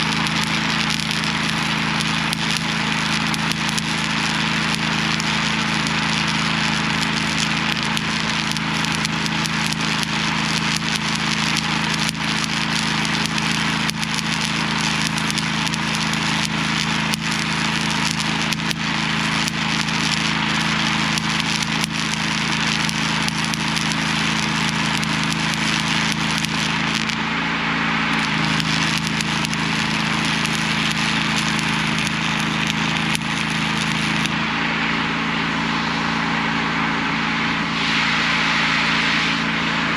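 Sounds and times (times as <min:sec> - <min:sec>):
welding arc crackling and sizzling: 0:00.0 - 0:39.9.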